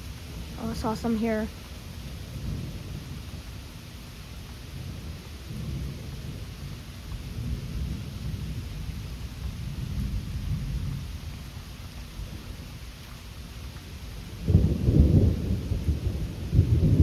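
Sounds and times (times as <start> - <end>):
thunder rumbling: 0.0 - 4.0, 4.6 - 12.8, 13.9 - 17.0
rain hissing: 0.0 - 17.0.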